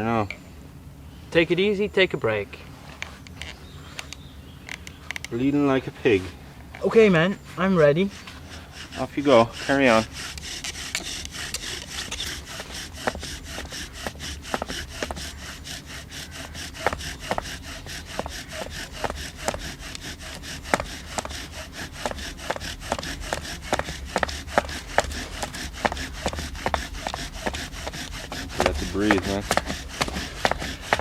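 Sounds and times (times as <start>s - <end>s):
bow drill spindle rubbing wood: 4.7s - 31.0s.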